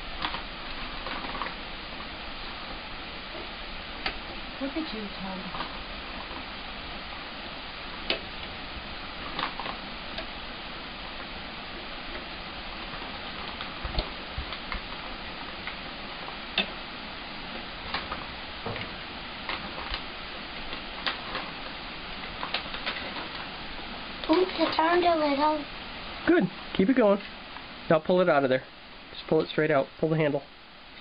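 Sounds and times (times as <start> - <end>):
background hiss: 0.0 - 31.0.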